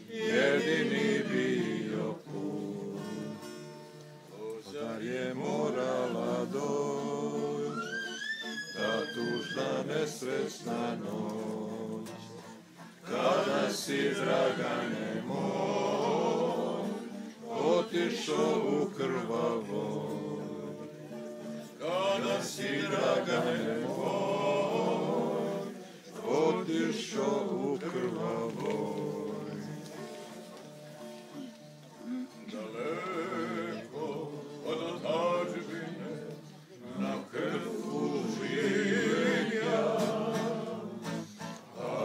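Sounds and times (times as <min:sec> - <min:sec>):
men singing without instruments: 0:00.0 - 0:03.4, 0:04.4 - 0:08.0, 0:08.8 - 0:21.0, 0:21.8 - 0:29.9, 0:32.5 - 0:42.0.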